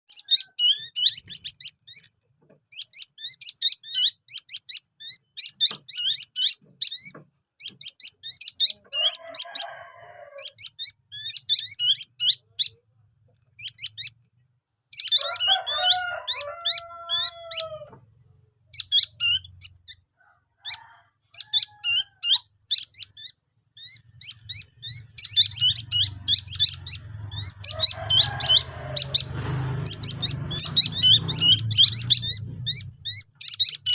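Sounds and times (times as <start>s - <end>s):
bird chicks chirping shrilly: 0.0s - 33.9s.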